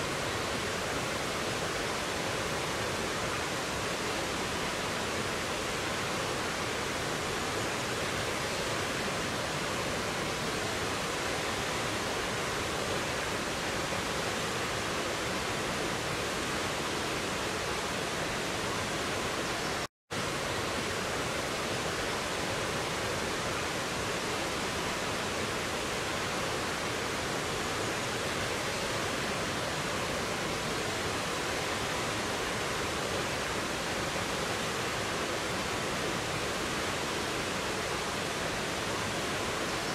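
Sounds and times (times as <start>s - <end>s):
stream cascading over boulders: 0.0s - 39.9s.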